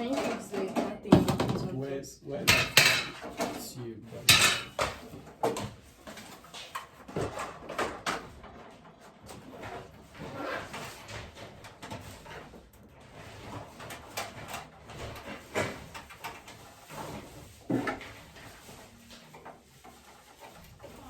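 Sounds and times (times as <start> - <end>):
household items knocking and clattering: 0.0 - 1.8, 2.4 - 3.6, 4.2 - 21.0.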